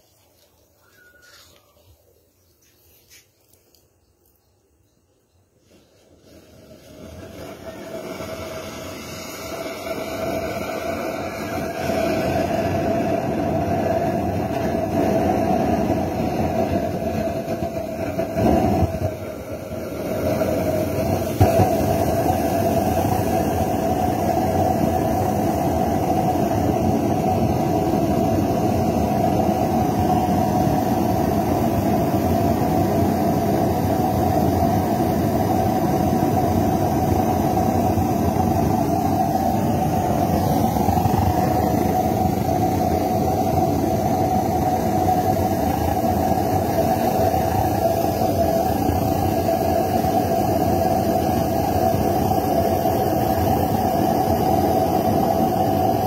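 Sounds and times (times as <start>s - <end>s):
burner flame rushing: 5.7s - 56.0s.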